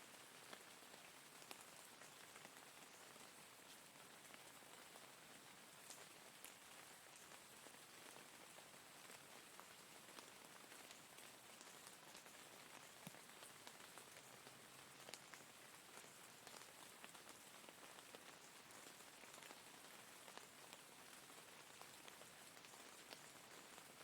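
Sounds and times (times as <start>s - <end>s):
quiet steady rain: 0.0s - 24.0s.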